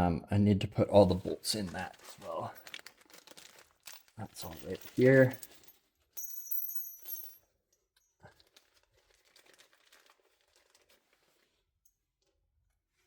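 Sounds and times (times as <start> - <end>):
rustling and metal clinking: 1.1 - 12.0.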